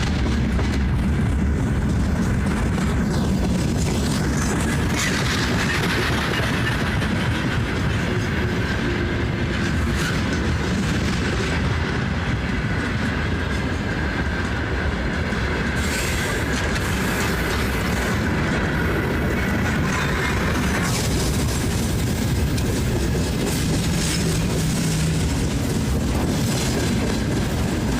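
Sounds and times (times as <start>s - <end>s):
freight train wheels rumbling: 0.0s - 27.9s.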